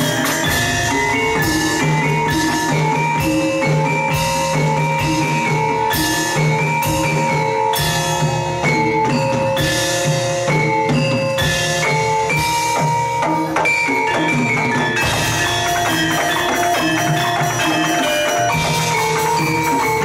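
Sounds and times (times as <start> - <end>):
drum kit: 0.0 - 20.0
metallophones playing patterns: 0.0 - 20.0.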